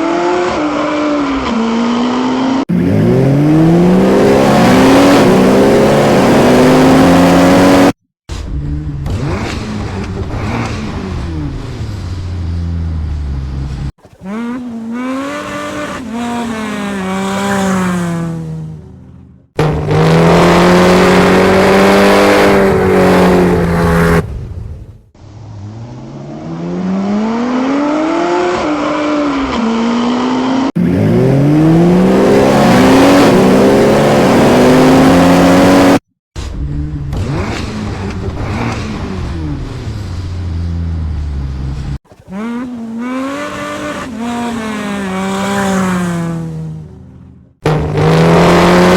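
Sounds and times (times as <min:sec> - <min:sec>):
car engine revving: 0:00.0 - 0:24.6, 0:25.3 - 0:48.9.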